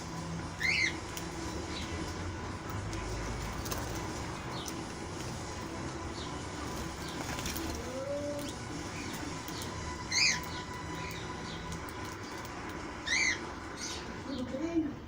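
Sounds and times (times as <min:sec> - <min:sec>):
small birds chirping: 0:00.0 - 0:14.9
doves cooing: 0:00.1 - 0:14.8.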